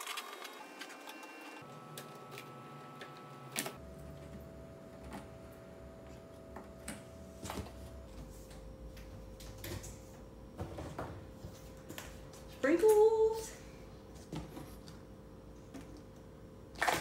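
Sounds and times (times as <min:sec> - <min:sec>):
faint steady hum: 0:01.0 - 0:17.0.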